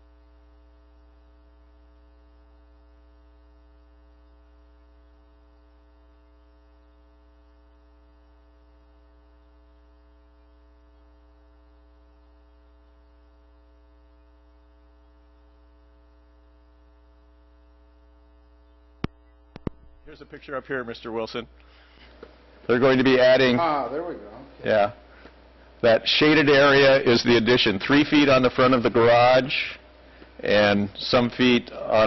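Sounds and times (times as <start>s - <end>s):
faint electrical mains hum: 0.0s - 32.0s.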